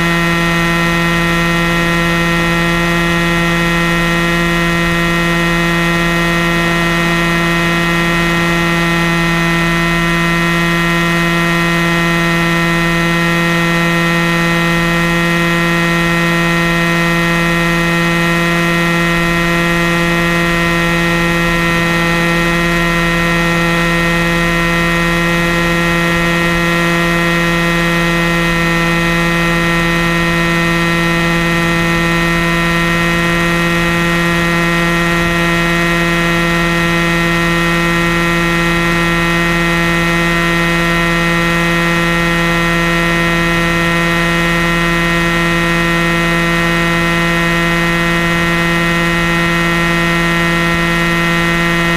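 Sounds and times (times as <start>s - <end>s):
model helicopter engine and rotor hum: 0.0s - 51.9s.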